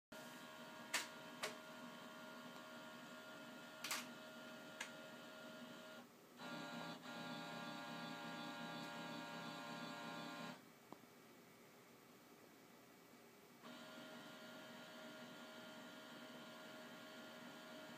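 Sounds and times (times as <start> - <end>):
scanner motor hum: 0.4 - 10.6, 13.6 - 17.9.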